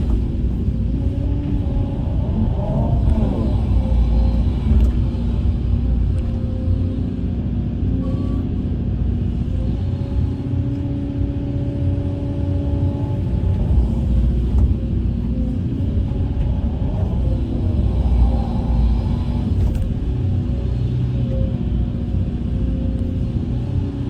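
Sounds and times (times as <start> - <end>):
heavy machine engine rumbling: 0.0 - 24.0.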